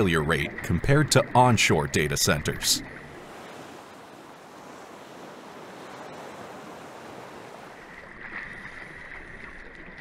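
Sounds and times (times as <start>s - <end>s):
rushing sea: 0.0s - 10.0s.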